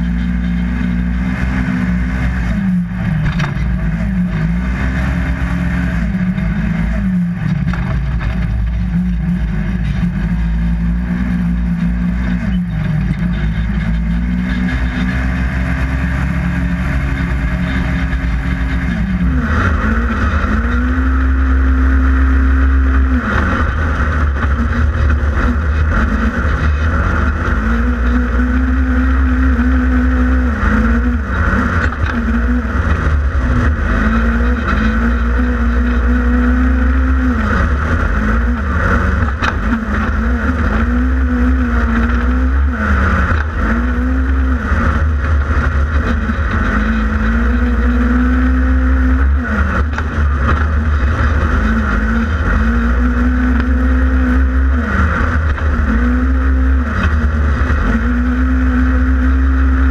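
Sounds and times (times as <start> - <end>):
engine revving hard: 0.0 - 59.9.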